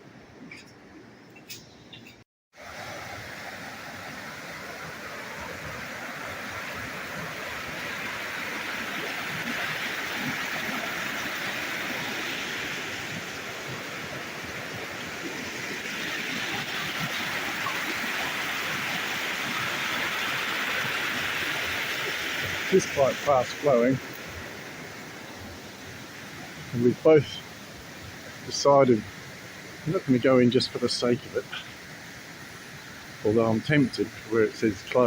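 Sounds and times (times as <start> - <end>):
creek water rushing: 2.6 - 35.0.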